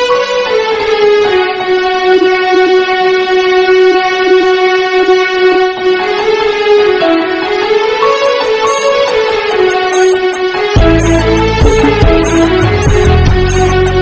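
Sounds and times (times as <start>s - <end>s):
background music with held note: 0.0s - 14.0s.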